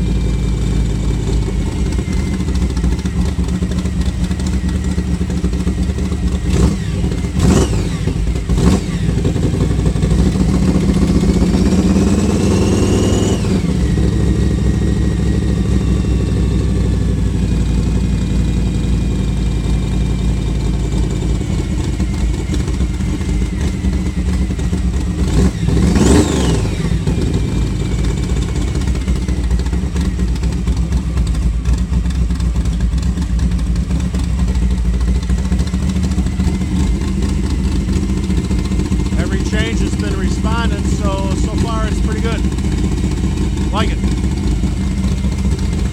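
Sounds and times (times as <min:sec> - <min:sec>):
car engine revving: 0:00.0 - 0:18.2, 0:21.2 - 0:32.4, 0:35.0 - 0:45.9.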